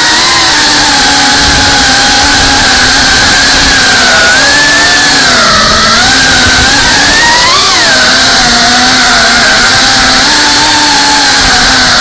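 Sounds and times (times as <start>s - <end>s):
drone motors buzzing: 0.0s - 12.0s.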